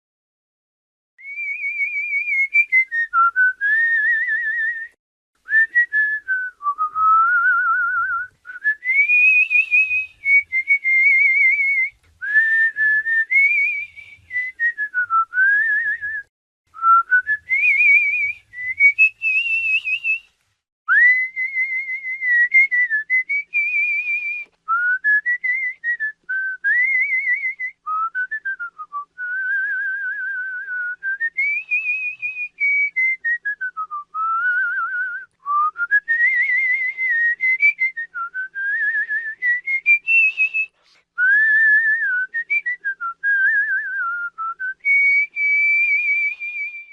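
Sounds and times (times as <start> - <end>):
person whistling: 1.2 - 20.3, 20.9 - 46.9.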